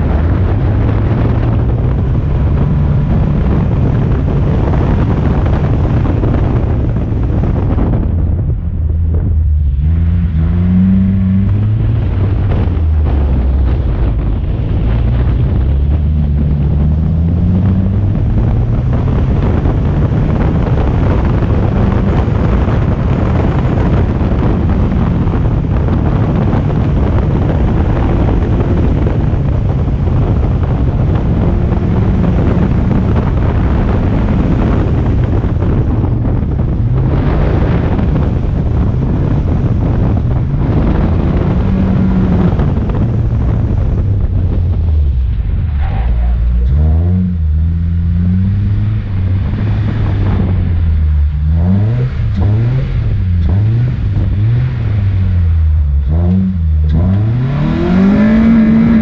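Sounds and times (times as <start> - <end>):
car engine revving: 0.0 - 59.0
tyre and road noise: 0.0 - 59.0
wind noise on microphone: 0.0 - 59.0.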